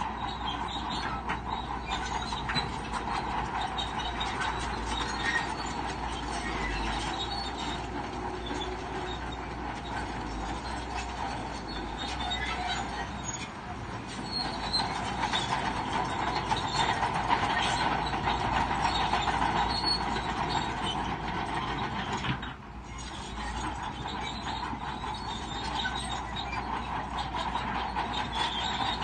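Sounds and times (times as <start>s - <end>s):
bulldozer engine running: 0.0s - 29.0s
bulldozer tracks clanking and squealing: 0.0s - 29.0s.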